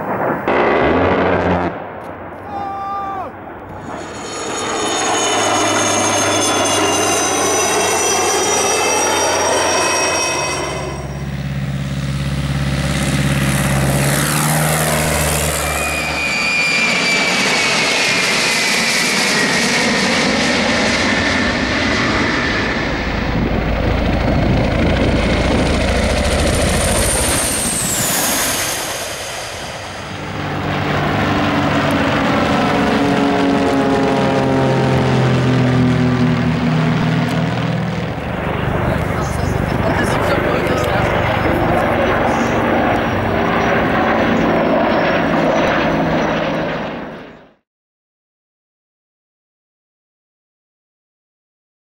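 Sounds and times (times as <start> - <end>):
helicopter rotor and turbine: 0.0 - 47.6
jet aircraft roar and turbine whine: 0.0 - 47.6
propeller planes droning past: 0.0 - 47.6.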